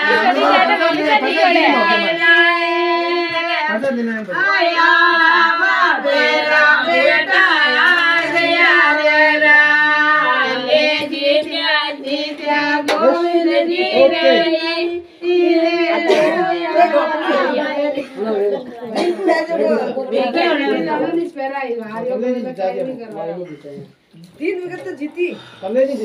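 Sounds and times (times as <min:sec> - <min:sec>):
voices singing a folk song: 0:00.0 - 0:21.2.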